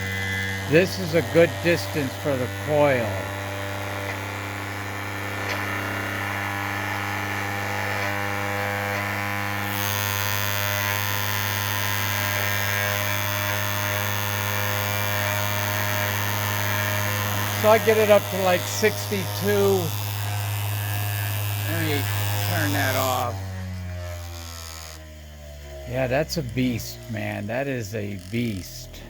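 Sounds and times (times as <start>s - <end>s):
motor rotor humming and whining: 0.0s - 29.0s.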